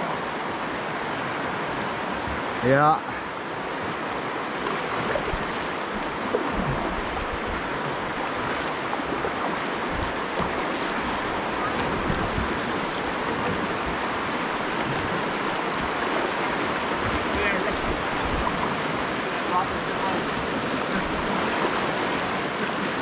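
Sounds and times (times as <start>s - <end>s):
water rushing over rocks: 0.0s - 23.0s.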